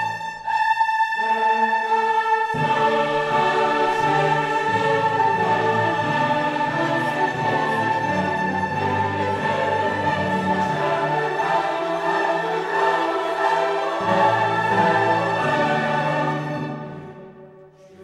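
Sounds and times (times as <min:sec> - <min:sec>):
choir holding long notes: 0:00.0 - 0:18.0
slow orchestral music: 0:00.0 - 0:18.0.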